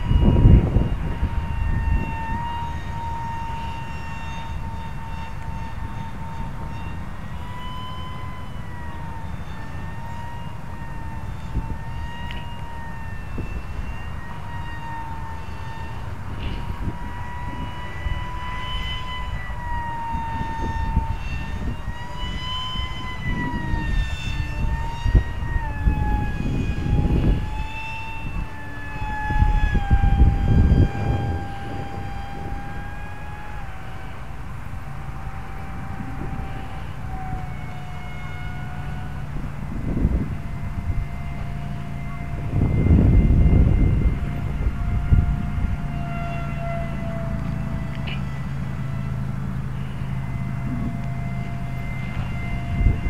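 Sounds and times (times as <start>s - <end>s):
model plane motor whining: 0.0s - 53.0s
wind rumbling on microphone: 0.0s - 53.0s.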